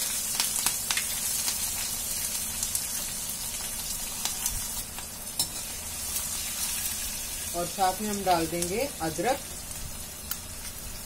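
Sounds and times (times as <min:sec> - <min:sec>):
chillies sizzling in hot oil: 0:00.0 - 0:11.0.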